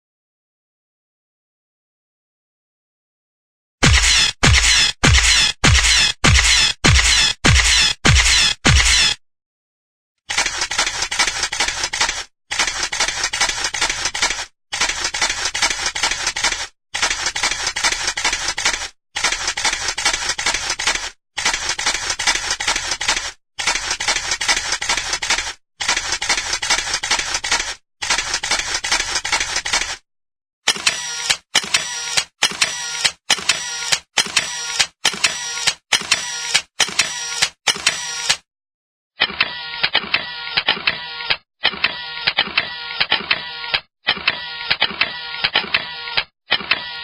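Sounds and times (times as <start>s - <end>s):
camera shutter firing rapidly: 3.8s - 9.2s, 10.3s - 30.0s, 30.7s - 38.5s, 39.2s - 47.0s.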